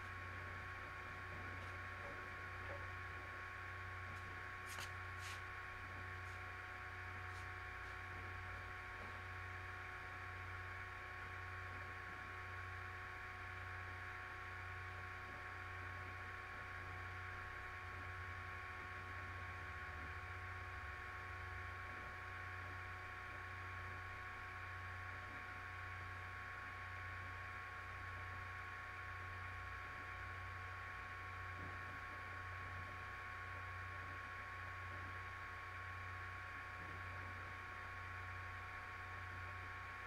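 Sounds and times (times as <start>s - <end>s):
electrical hum and hiss: 0.0s - 40.0s.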